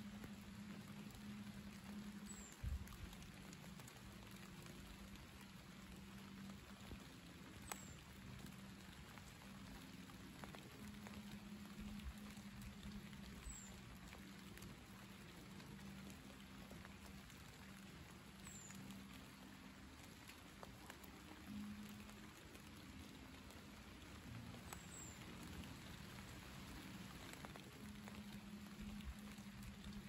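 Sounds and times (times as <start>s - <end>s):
light rain pattering on leaves: 0.0s - 30.0s
soft drips: 0.0s - 30.0s.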